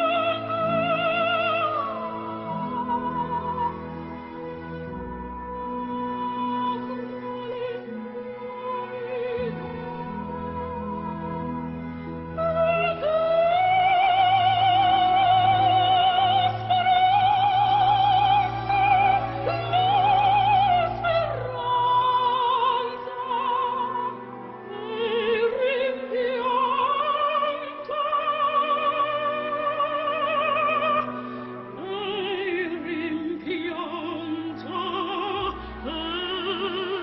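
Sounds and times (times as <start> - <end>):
operatic singing: 0.0 - 37.0.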